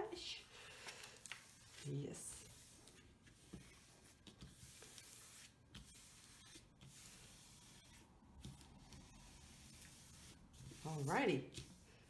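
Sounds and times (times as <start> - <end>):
paper rustling: 0.3 - 12.0.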